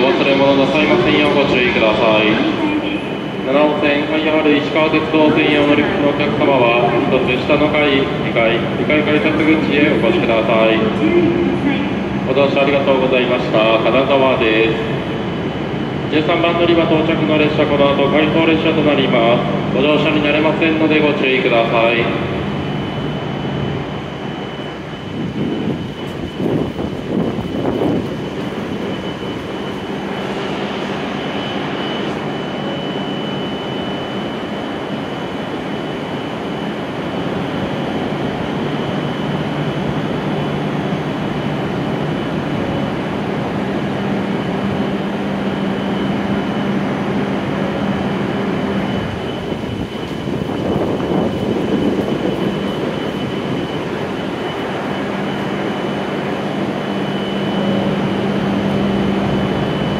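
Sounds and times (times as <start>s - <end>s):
train equipment humming with whine: 0.0s - 59.9s.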